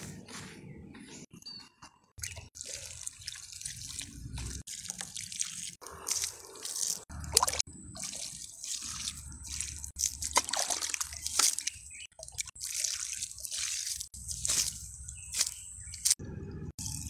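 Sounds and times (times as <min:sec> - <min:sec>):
dipper scooping water: 0:02.2 - 0:16.2
water pouring onto dry soil: 0:02.2 - 0:16.2.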